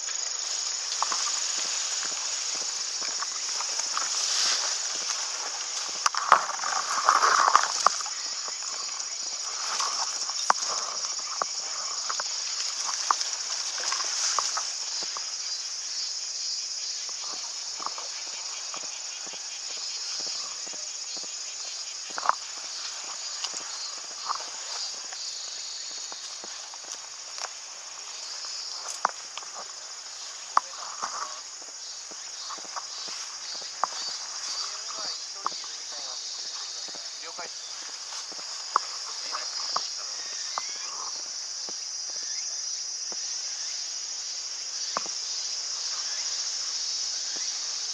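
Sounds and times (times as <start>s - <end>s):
footsteps rustling through undergrowth: 0.0s - 47.9s
insect drone: 0.0s - 47.9s.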